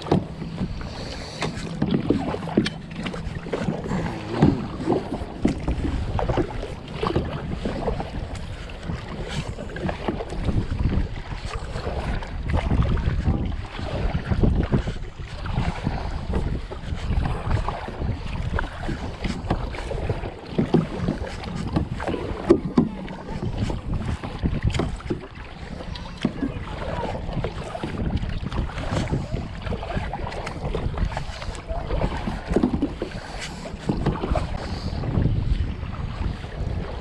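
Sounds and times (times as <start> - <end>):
knocks and splashes: 0.0 - 37.0
water lapping against plastic hull: 0.0 - 37.0
wind buffeting microphone: 0.0 - 37.0.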